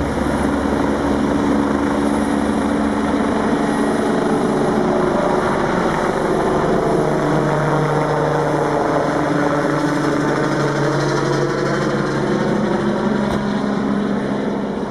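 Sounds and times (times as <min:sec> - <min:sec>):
helicopter turbine and rotor: 0:00.0 - 0:14.9.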